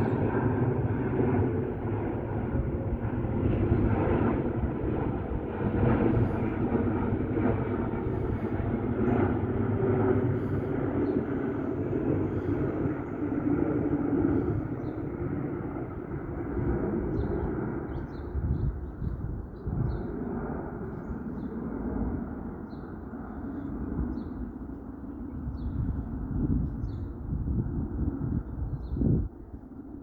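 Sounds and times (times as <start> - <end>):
jet engine rumble: 0.0 - 30.0.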